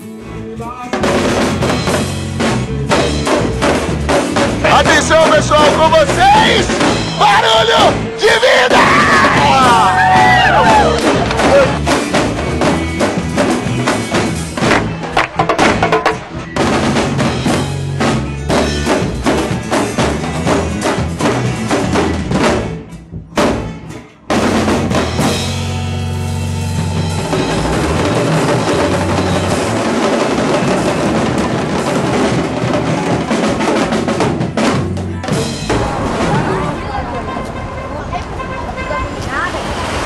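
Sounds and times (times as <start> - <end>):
bass drum and snare rhythm: 0.7 - 36.8.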